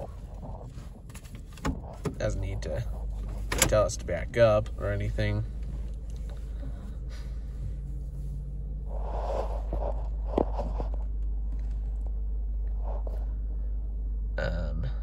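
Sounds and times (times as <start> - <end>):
car wash low hum: 0.0 - 15.0.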